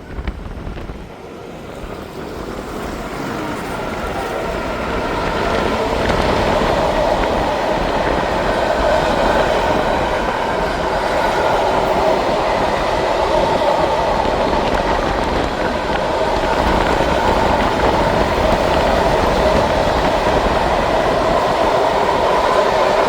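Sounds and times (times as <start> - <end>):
train wheels running on rails: 0.0 - 23.0.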